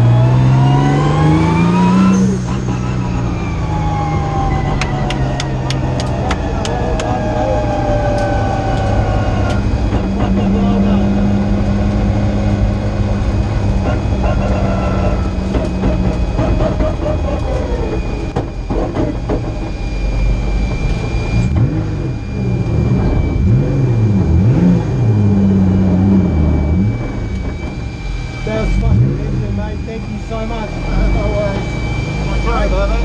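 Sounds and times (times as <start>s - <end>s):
car engine revving: 0.0s - 33.0s
thin high whine: 0.4s - 33.0s.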